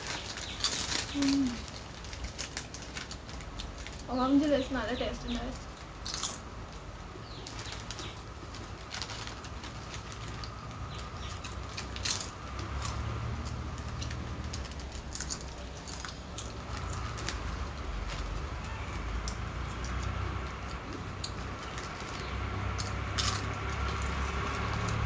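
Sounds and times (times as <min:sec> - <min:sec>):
chips being chewed: 0:00.0 - 0:04.1, 0:05.6 - 0:06.8, 0:07.4 - 0:25.0
foil packets crinkling: 0:00.0 - 0:25.0.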